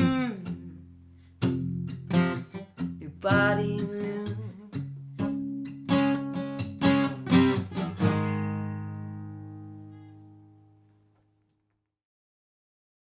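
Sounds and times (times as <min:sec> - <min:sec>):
acoustic guitar strumming: 0:00.0 - 0:11.2.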